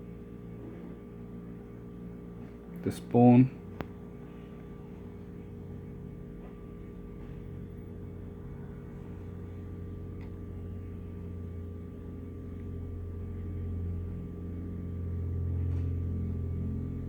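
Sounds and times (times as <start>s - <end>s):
power supply electrical hum: 0.0s - 17.0s.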